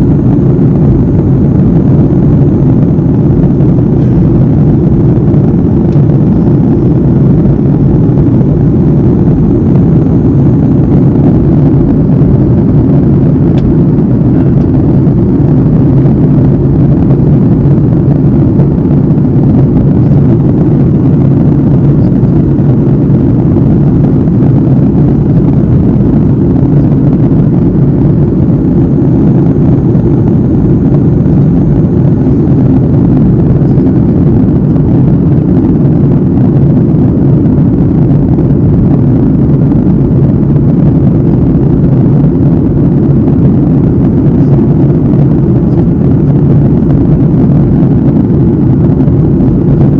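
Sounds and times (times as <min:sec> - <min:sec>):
airliner cabin engine rush: 0:00.0 - 0:49.9.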